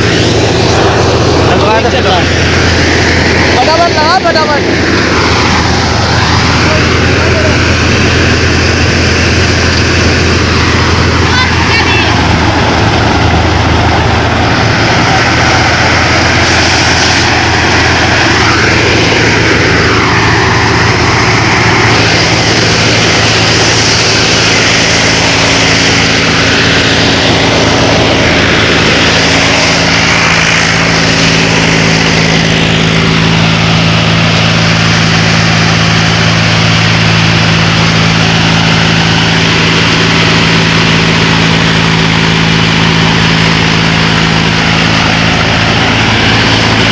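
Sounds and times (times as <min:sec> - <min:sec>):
thresher noise: 0:00.0 - 0:46.9
tractor diesel engine running: 0:00.0 - 0:46.9.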